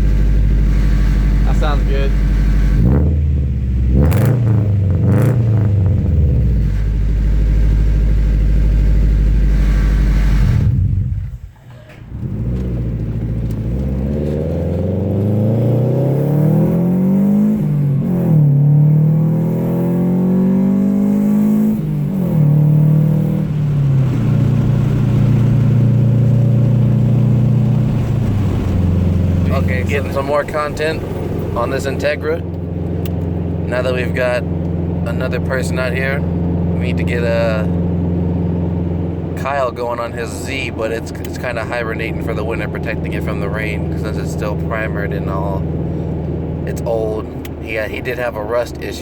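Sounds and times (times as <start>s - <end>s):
car engine idling and revving: 0.0s - 49.0s
car accelerating through gears: 0.6s - 7.8s, 12.1s - 49.0s.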